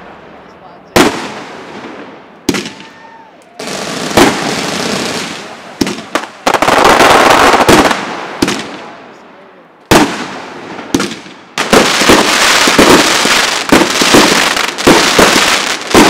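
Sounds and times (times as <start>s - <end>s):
hissing crackle of fireworks: 0.0s - 9.2s, 9.9s - 16.0s
firework bangs: 0.9s - 9.2s, 9.9s - 16.0s.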